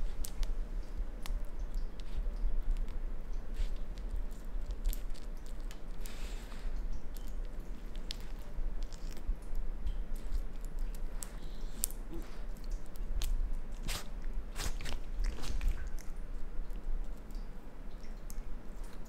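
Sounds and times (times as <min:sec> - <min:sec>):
raccoon chewing: 0:00.0 - 0:17.3.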